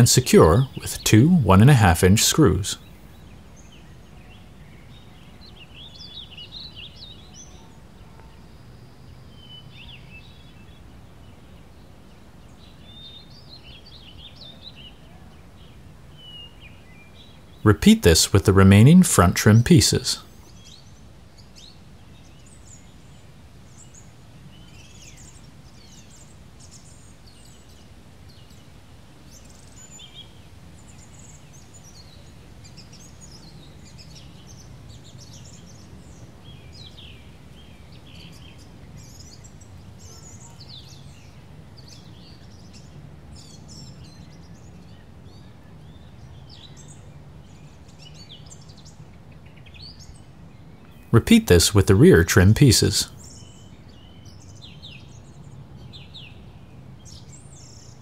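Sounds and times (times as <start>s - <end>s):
birds chirping: 0.0s - 28.6s, 29.4s - 58.0s.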